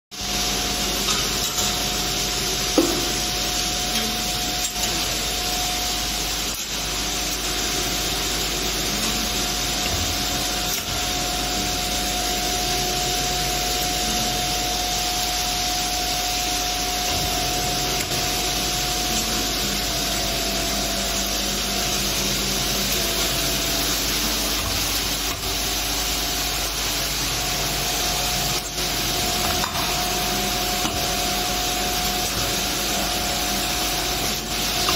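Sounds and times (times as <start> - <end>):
machine hum: 0.2 - 34.9
machine whirring hiss: 0.2 - 34.9.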